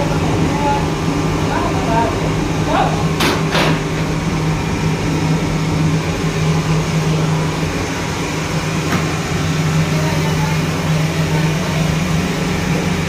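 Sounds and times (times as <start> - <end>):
burner blower drone: 0.0 - 13.0
low hum: 0.0 - 13.0.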